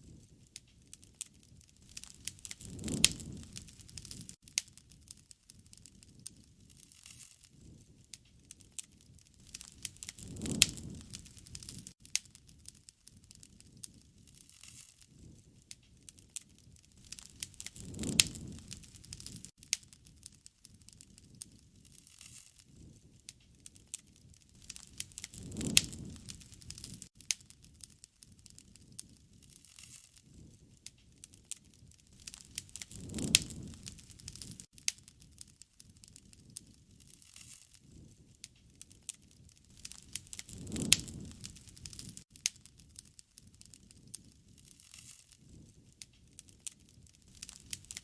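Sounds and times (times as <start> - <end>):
low rush of burning: 0.0 - 6.9, 7.5 - 22.0, 22.6 - 37.2, 37.8 - 44.7, 45.4 - 48.0
wood fire crackling: 0.0 - 48.0.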